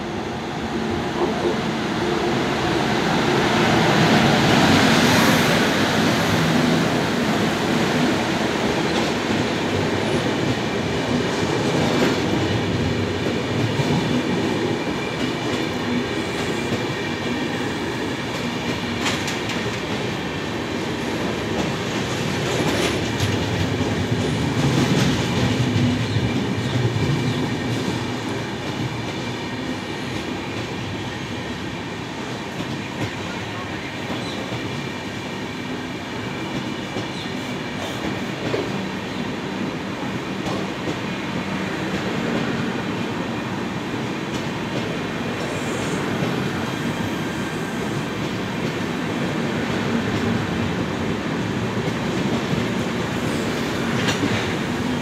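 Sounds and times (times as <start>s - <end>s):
electric locomotive passing: 0.0s - 55.0s.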